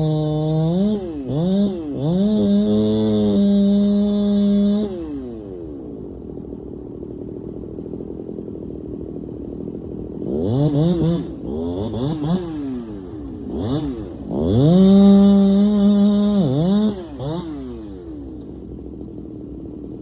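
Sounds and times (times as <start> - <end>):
chainsaw engine revving and idling: 0.0 - 20.0.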